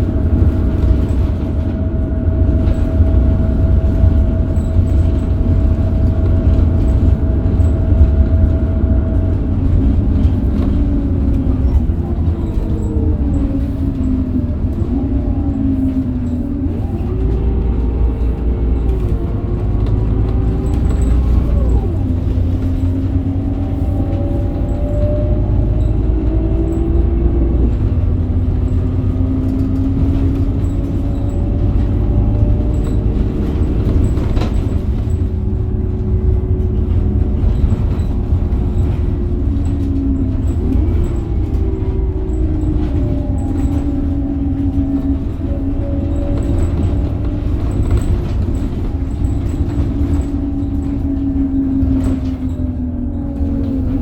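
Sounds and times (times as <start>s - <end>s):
bus diesel engine running: 0.0s - 54.0s
low road rumble: 0.0s - 54.0s.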